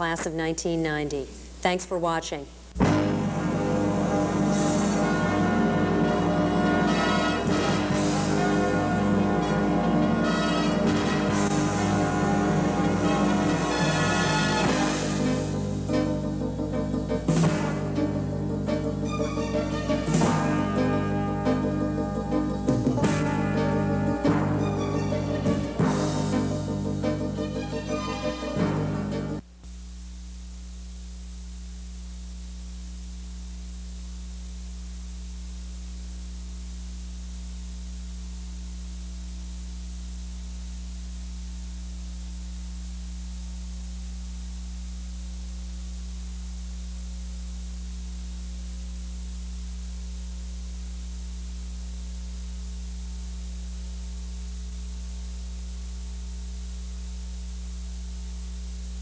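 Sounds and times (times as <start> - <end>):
constant hiss: 0.0 - 59.0
electrical hum: 0.0 - 59.0.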